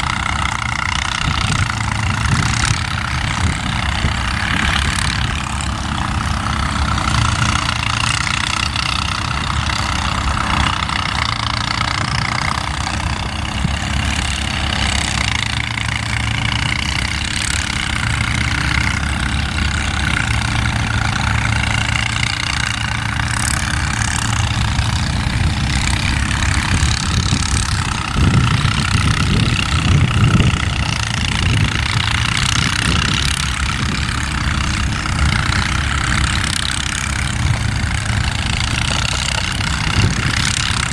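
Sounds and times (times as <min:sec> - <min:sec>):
diesel locomotive engine rumbling: 0:00.0 - 0:40.9.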